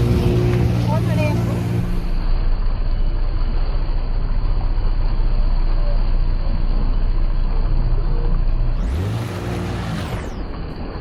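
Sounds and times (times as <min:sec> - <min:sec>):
motorboat engine rumbling: 0:00.0 - 0:11.0.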